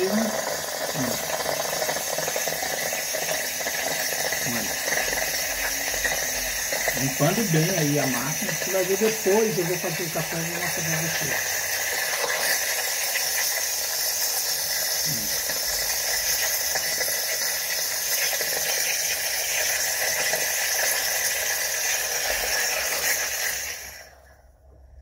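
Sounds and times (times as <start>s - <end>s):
steam wand hissing: 0.0s - 24.3s.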